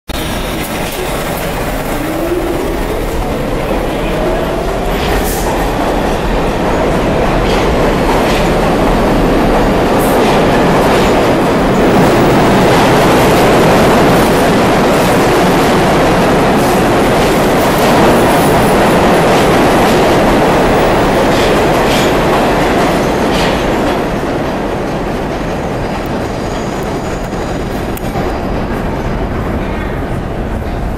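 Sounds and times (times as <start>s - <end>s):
train rumbling past: 0.1s - 30.9s.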